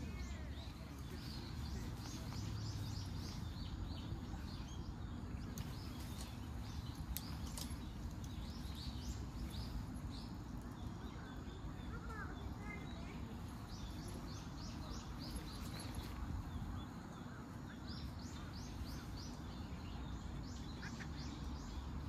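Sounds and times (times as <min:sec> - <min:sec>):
low outdoor rumble: 0:00.0 - 0:22.0
small birds chirping: 0:00.0 - 0:22.0.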